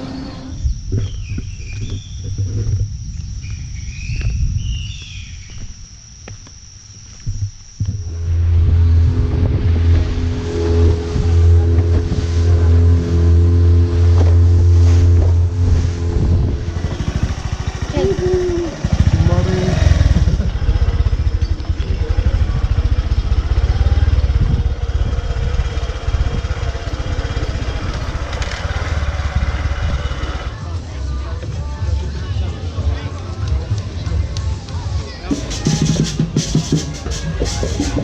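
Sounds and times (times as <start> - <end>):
motorcycle engine running: 0.0 - 31.4.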